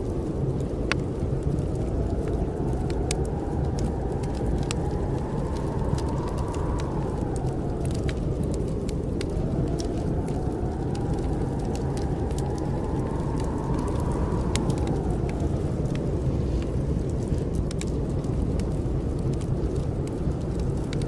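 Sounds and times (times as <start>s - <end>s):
wind howling: 0.0s - 21.0s
wood fire crackling: 0.0s - 21.0s.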